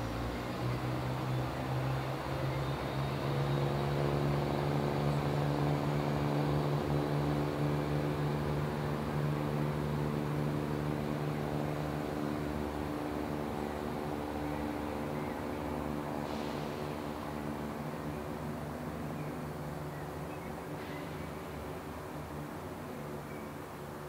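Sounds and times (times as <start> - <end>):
diesel train engines humming: 0.0 - 24.0.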